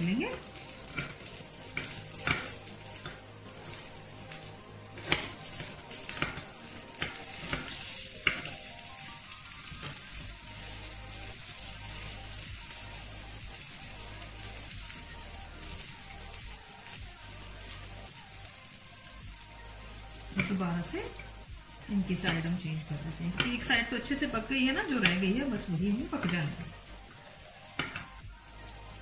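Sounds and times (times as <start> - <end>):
fritters sizzling in oil: 0.0 - 29.0.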